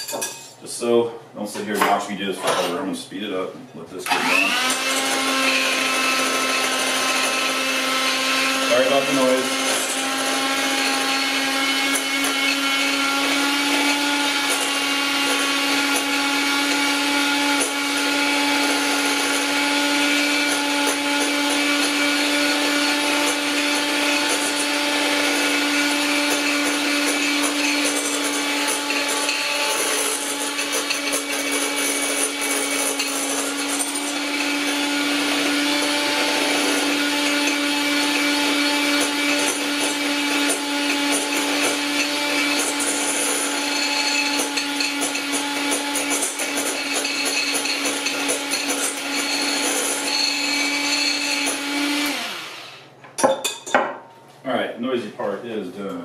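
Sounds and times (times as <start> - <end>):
electric hand mixer running: 4.1 - 53.1.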